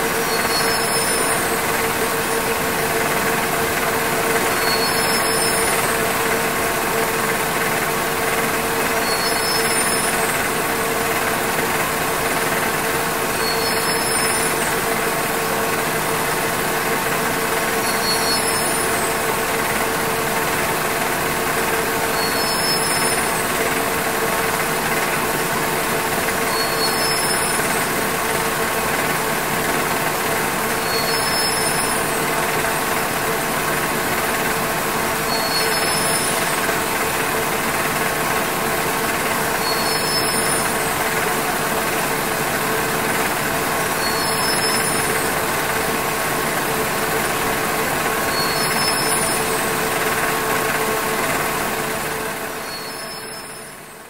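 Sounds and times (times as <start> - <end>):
textile machine clatter and whine: 0.0 - 54.0.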